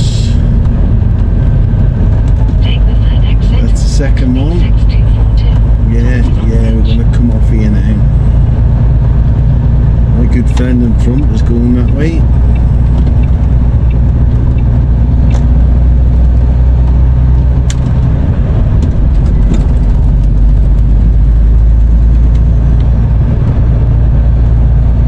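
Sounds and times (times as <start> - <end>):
lorry diesel engine rumble: 0.0 - 25.0
road noise inside cab: 0.0 - 25.0.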